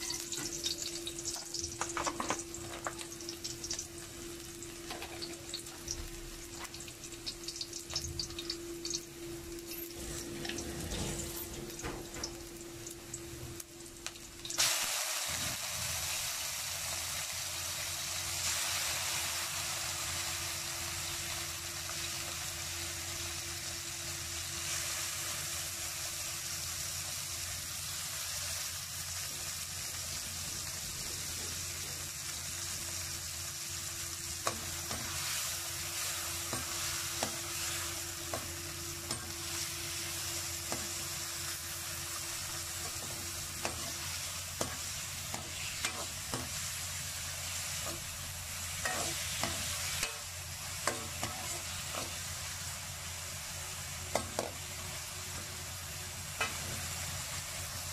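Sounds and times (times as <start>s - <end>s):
garlic and onion sizzling in oil: 0.0s - 57.9s.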